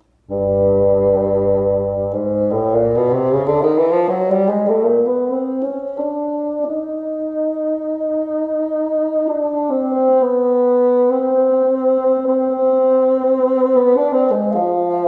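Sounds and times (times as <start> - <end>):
solo bassoon playing: 0.2 - 15.0.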